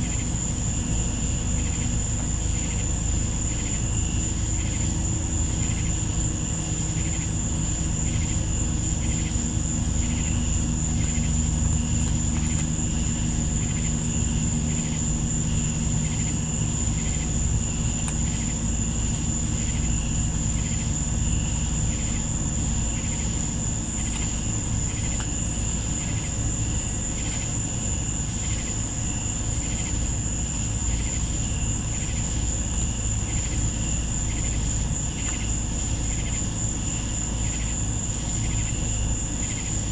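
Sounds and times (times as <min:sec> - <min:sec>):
high-pitched insect trill: 0:00.0 - 0:39.9
low steady hum: 0:00.0 - 0:39.9
pulsing insect chirp: 0:00.0 - 0:39.9.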